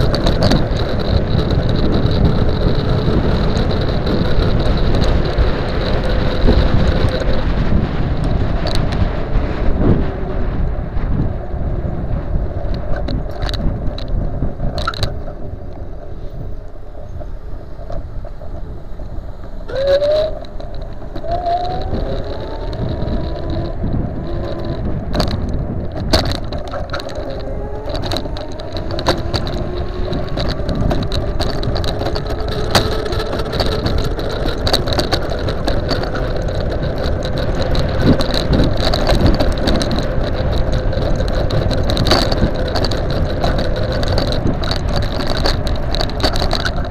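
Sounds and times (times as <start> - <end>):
tyres rumbling on tarmac: 0.0 - 46.9
wind buffeting microphone: 0.0 - 46.9.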